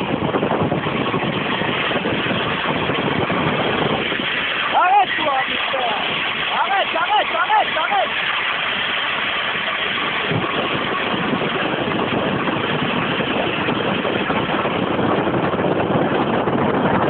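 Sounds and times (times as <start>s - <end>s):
engine rumble: 0.0s - 17.0s
road noise of cars: 0.0s - 17.0s.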